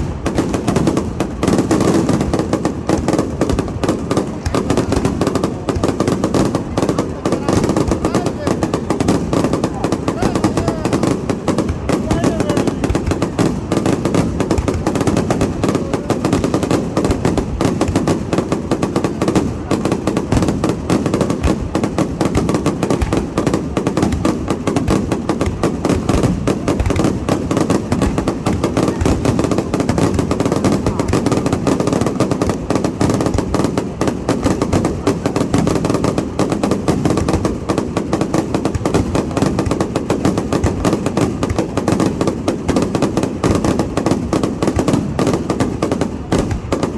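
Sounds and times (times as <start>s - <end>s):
fireworks banging and crackling: 0.0s - 46.9s.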